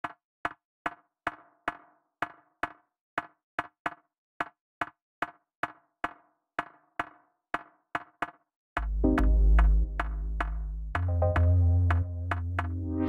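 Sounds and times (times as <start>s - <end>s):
sharp wood-block-like knocks: 0.0s - 12.8s.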